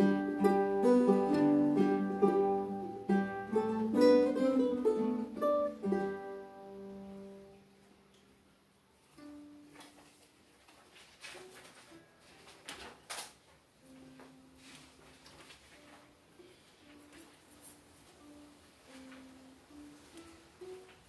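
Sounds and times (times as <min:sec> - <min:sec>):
ukuleles and guitars playing: 0:00.0 - 0:12.6, 0:13.7 - 0:21.0.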